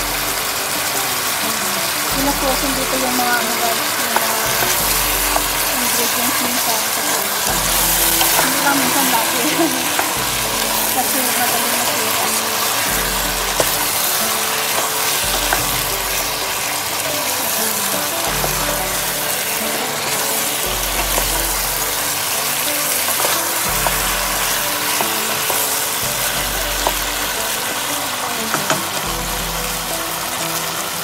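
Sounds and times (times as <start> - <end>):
background music with bass: 0.0 - 31.0
chicken sizzling in a pot: 0.0 - 31.0.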